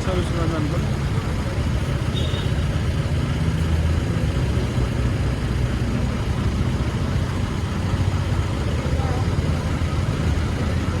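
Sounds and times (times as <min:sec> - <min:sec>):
motorcycle engine rumble: 0:00.0 - 0:11.0
road noise: 0:00.0 - 0:11.0.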